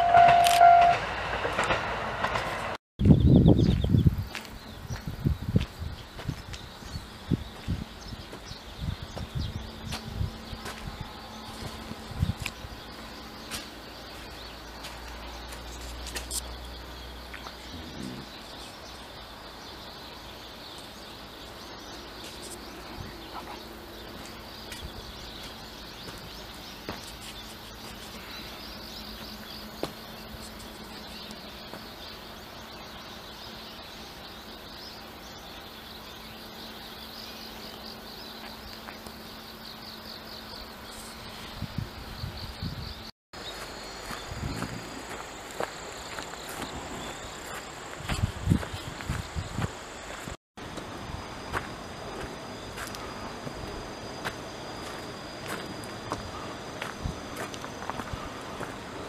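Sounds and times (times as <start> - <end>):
insect hiss: 3.9 - 59.0.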